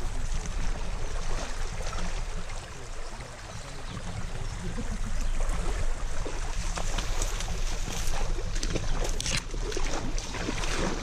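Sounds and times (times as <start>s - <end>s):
stream water washing: 0.0s - 11.0s.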